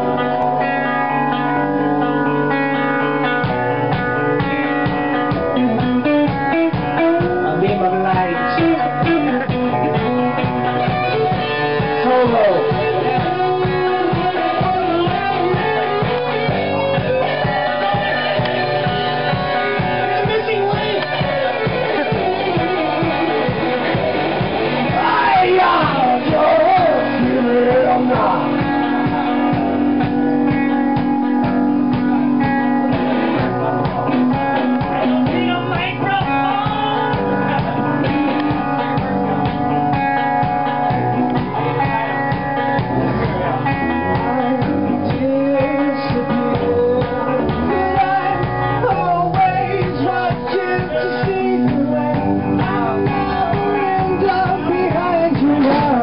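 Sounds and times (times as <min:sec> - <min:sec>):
guitar: 0:00.0 - 0:56.0
steady drum beat: 0:03.4 - 0:56.0
person singing: 0:05.6 - 0:39.6, 0:40.2 - 0:56.0.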